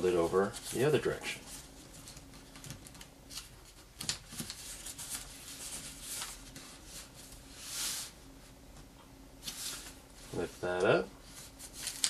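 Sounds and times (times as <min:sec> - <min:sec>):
paper rustling and crinkling: 0:00.0 - 0:08.1, 0:09.4 - 0:12.0.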